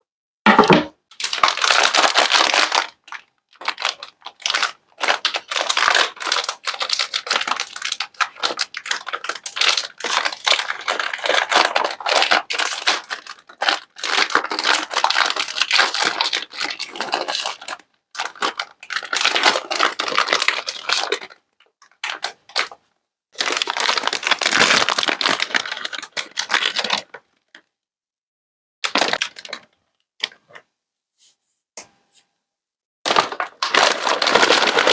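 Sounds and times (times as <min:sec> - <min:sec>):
sweets wrappers crinkling: 0:01.1 - 0:22.8, 0:23.4 - 0:27.6, 0:28.8 - 0:30.6, 0:33.1 - 0:34.9.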